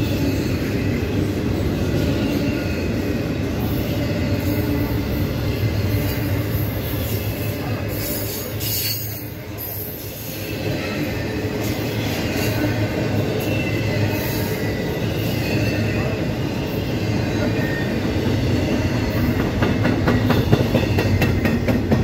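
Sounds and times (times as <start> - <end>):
train wheels rumbling and rattling: 0.0 - 22.0.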